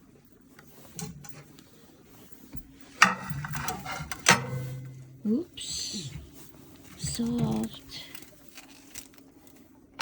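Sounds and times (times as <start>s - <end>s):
low steady hum: 0.0s - 10.0s
rustling and handling: 0.0s - 10.0s.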